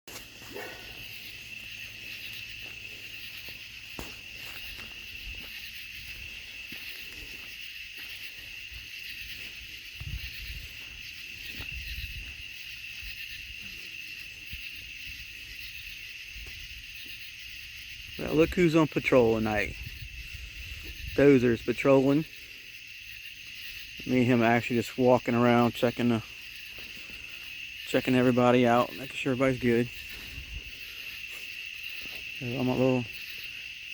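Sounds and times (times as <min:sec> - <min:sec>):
night insects trilling: 0:00.1 - 0:33.9.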